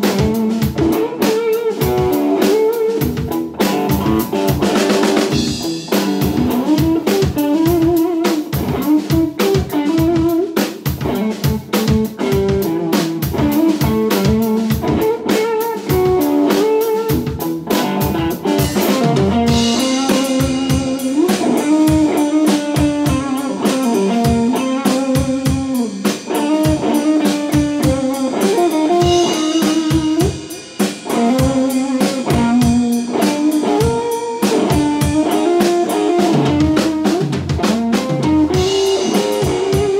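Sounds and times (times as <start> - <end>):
drum kit beat: 0.0 - 39.9
electric guitar blues melody: 0.0 - 39.9.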